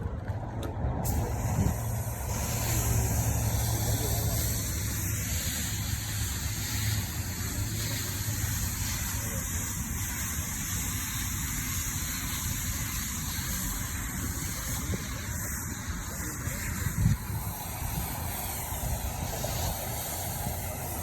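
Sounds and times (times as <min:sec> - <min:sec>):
water spraying hiss: 0:01.0 - 0:21.0.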